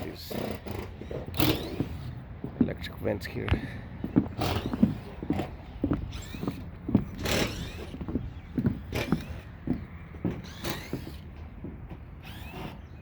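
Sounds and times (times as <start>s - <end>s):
short rising squeaks: 0.2s - 2.3s, 4.2s - 13.0s.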